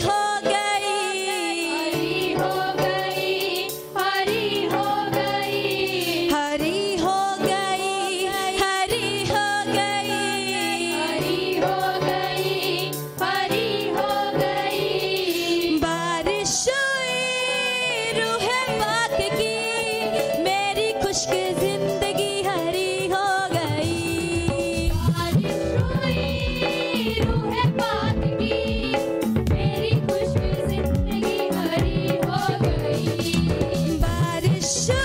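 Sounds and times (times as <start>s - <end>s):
instrumental accompaniment: 0.0s - 35.0s
women singing worship song: 0.0s - 35.0s.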